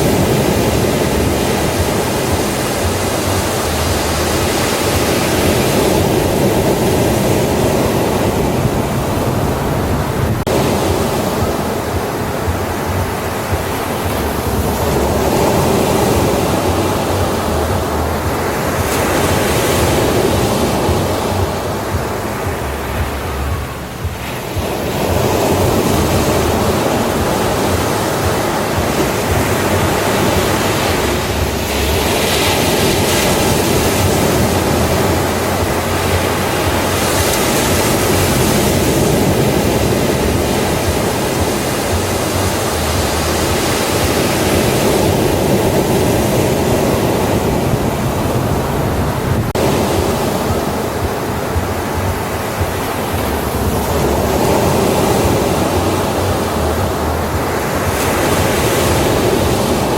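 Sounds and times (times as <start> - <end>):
hissing wave surges: 0.0 - 59.9
ocean surf washing: 0.0 - 59.9.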